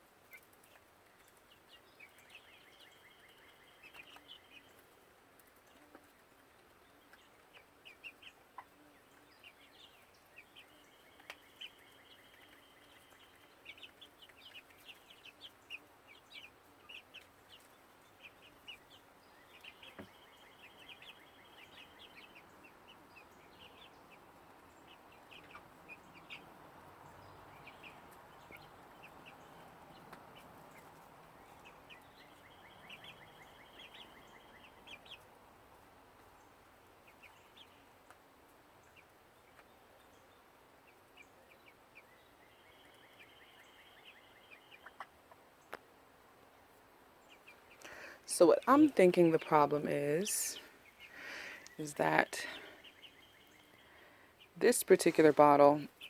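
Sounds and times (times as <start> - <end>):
chickens chirping and trilling: 0.0 - 56.0.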